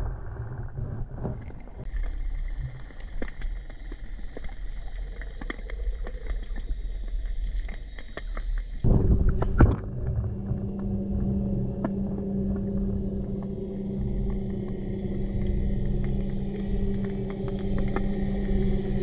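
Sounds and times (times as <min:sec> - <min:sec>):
underwater low hum: 0:00.0 - 0:19.0.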